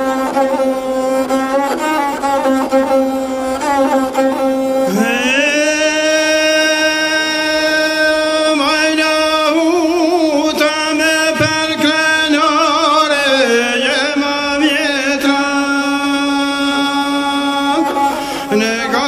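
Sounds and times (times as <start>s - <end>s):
bowed fiddle playing: 0.0s - 19.0s.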